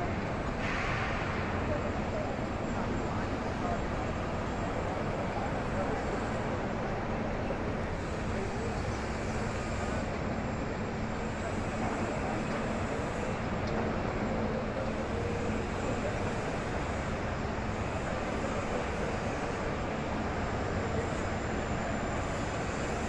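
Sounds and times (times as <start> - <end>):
crowd murmur: 0.0 - 23.0.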